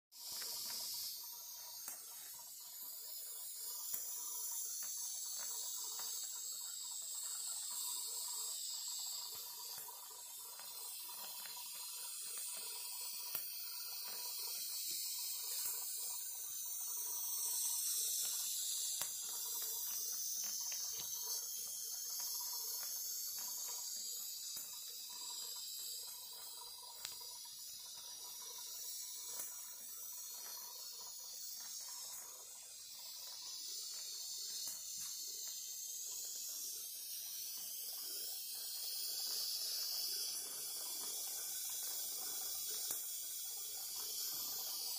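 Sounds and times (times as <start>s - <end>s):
steam hissing: 0.1s - 44.9s
faint ticks and clicks: 0.2s - 44.9s.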